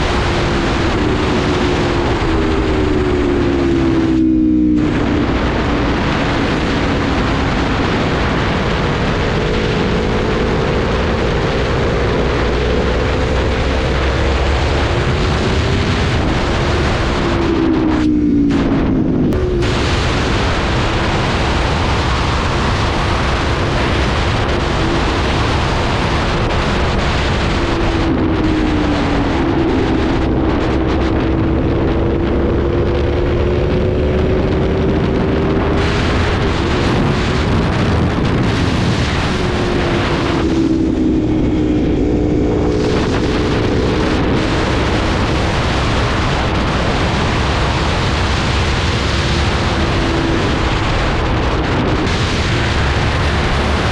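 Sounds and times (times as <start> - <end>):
motorcycle engine revving: 0.0 - 53.9
wind rush on microphone: 0.0 - 53.9.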